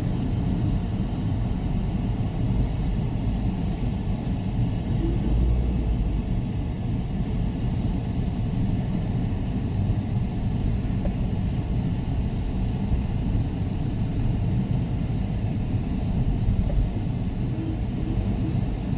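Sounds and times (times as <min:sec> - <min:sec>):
wind on microphone: 0:00.0 - 0:18.9.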